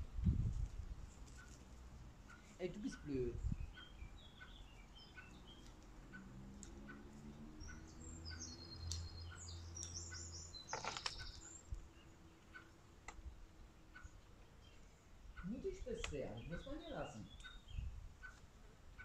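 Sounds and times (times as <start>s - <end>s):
small birds chirping: 0.1s - 19.0s
soft repeated tick: 1.1s - 3.0s, 3.7s - 17.6s, 18.2s - 19.0s.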